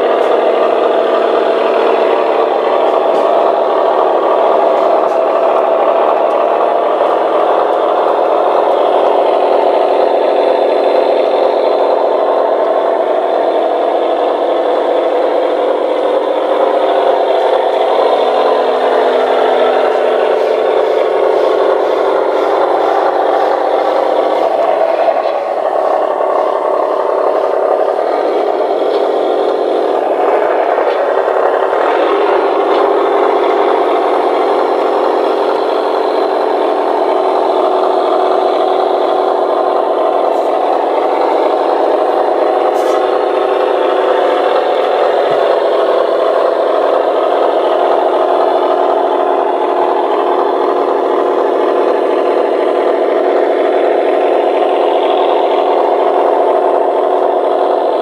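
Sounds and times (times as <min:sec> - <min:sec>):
model train motor whirring: 0:00.0 - 0:58.0
wheels rattling over rails: 0:00.0 - 0:58.0.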